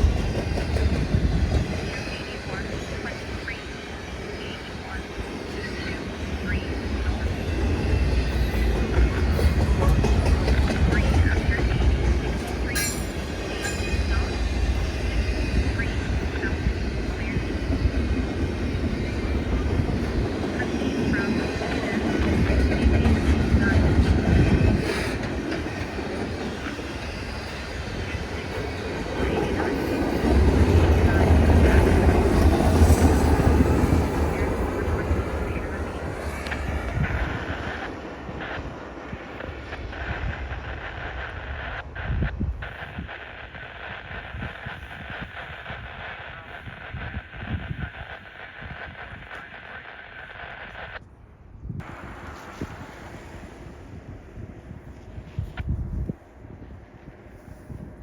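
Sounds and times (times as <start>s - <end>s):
train rumbling past: 0.0s - 48.6s, 51.8s - 58.0s.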